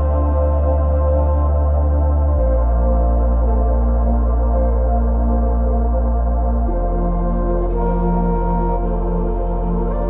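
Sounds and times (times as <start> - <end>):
ambient music with sustained chords: 0.0 - 10.0
deep bass drone: 0.0 - 10.0.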